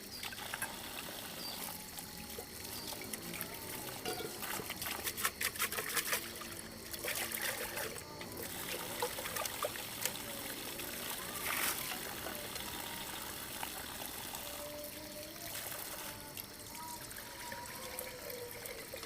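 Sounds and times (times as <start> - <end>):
water dripping: 0.0 - 5.4, 6.2 - 19.0
water trickling: 0.0 - 19.0.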